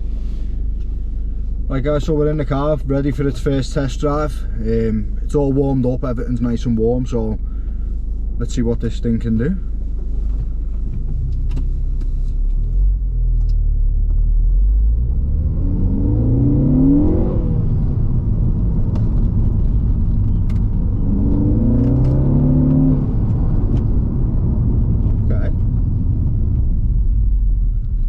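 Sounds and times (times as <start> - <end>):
car engine accelerating: 0.0 - 28.0
low road rumble: 0.0 - 28.0.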